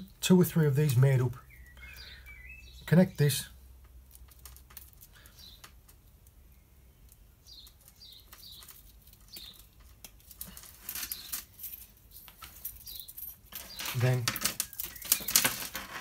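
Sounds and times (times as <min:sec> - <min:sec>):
small bird chirping: 0:00.9 - 0:15.7.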